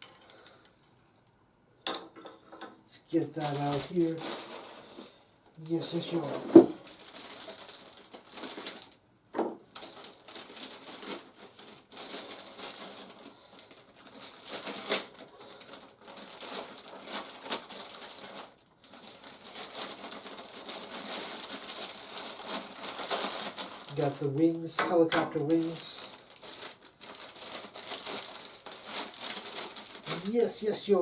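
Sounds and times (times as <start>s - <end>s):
plastic wrap and cardboard rustling: 3.0s - 31.0s.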